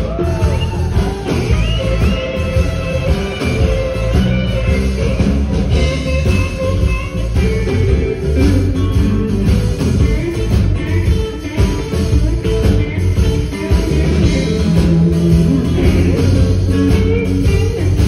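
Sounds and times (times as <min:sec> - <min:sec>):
bass line: 0:00.0 - 0:18.0
guitars playing: 0:00.0 - 0:18.0.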